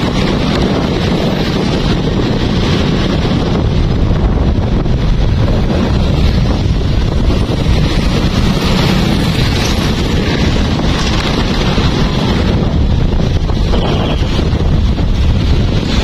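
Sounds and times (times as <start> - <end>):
traffic noise: 0.0 - 16.0
wind buffeting microphone: 0.0 - 16.0.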